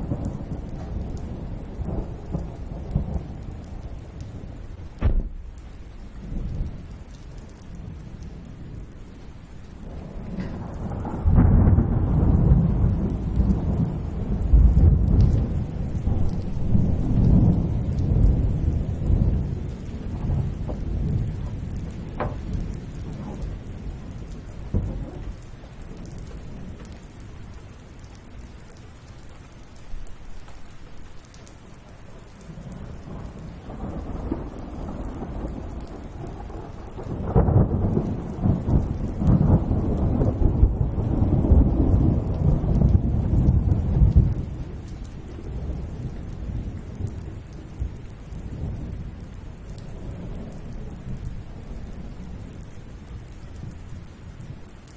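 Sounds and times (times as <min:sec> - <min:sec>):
thunder rumbling: 0:00.0 - 0:28.9, 0:32.0 - 0:54.9
steady rain: 0:00.0 - 0:54.9.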